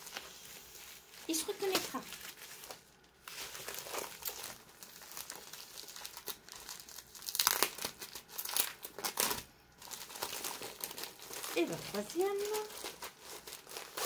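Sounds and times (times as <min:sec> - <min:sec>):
wrapping crinkling: 0:00.0 - 0:14.0.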